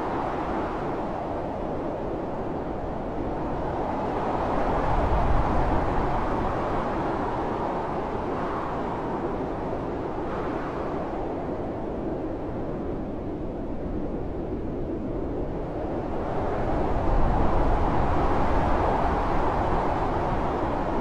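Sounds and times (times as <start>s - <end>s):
blizzard wind blowing: 0.0s - 21.0s.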